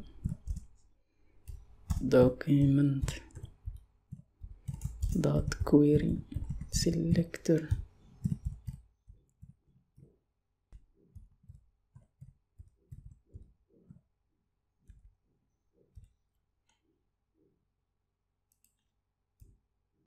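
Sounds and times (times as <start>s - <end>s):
faint keyboard typing: 0.0s - 14.1s, 15.8s - 16.8s, 18.5s - 19.6s.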